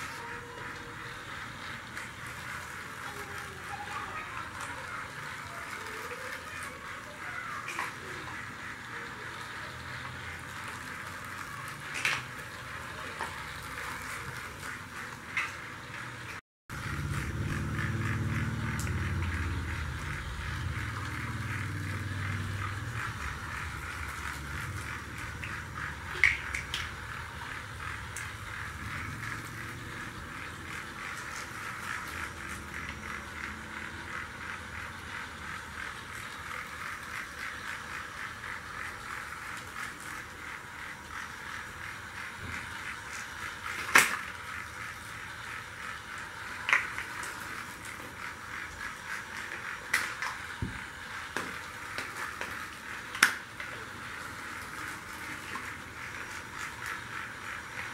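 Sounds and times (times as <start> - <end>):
toy train motor whirring: 0.0 - 57.9.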